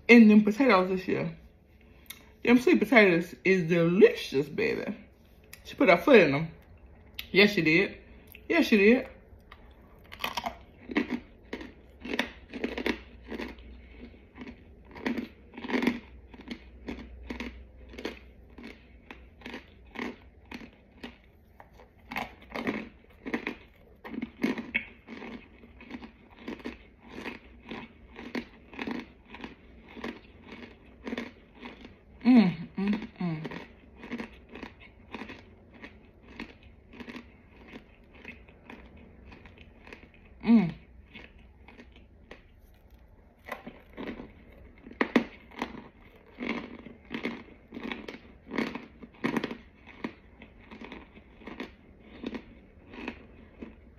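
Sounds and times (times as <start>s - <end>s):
chewing and crunching: 8.0s - 53.9s.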